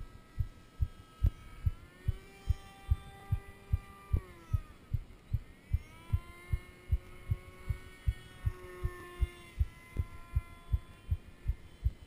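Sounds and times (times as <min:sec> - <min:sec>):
faint electric motor whine: 0:00.0 - 0:12.0
low thumping beat: 0:00.4 - 0:12.0.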